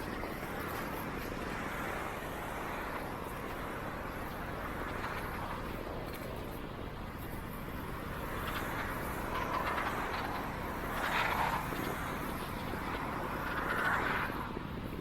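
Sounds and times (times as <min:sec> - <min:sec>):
bicycle rolling: 0:00.0 - 0:15.0
wind: 0:00.0 - 0:15.0.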